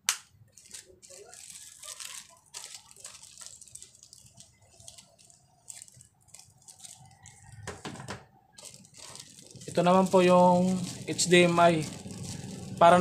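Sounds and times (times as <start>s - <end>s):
plastic bag crinkling: 0.5s - 13.0s.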